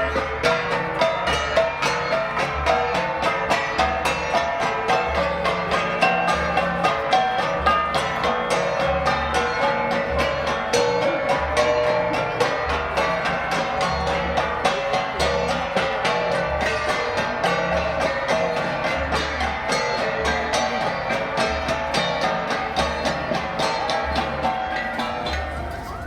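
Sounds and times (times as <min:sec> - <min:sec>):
deep drum beat: 0:00.0 - 0:26.0
flat gongs ringing: 0:00.0 - 0:26.0.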